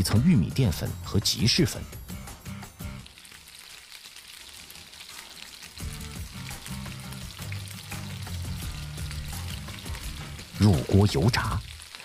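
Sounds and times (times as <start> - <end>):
background music: 0.0 - 3.6, 4.5 - 12.0
deep-frying sizzle and bubbling: 1.3 - 12.0.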